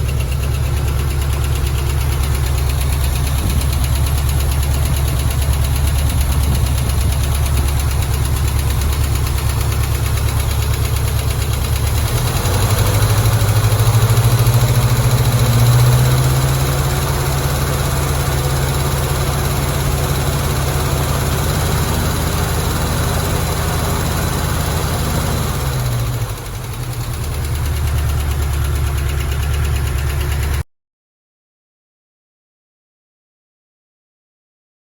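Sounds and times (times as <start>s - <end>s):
v eight engine idling and revving: 0.0s - 30.6s.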